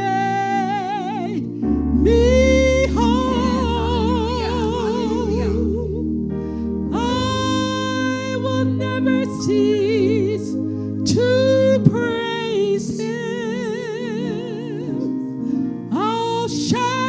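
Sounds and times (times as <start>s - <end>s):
gospel singer with vibrato: 0.0s - 17.0s
sustained accompaniment chords: 0.0s - 17.0s.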